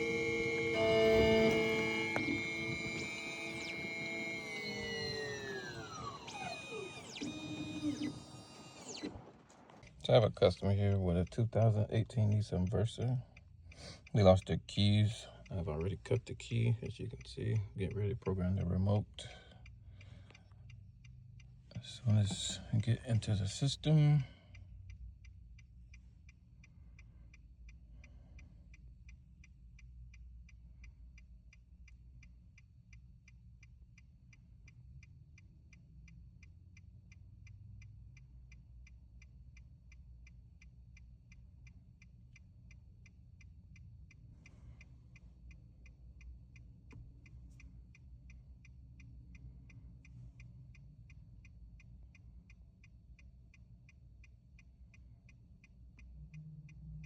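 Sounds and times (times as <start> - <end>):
faint steady ticking: 0.0 - 57.0.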